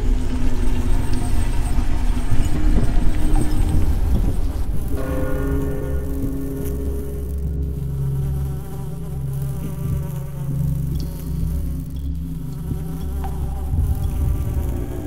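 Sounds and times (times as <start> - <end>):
low buzzing drone: 0.0 - 15.0.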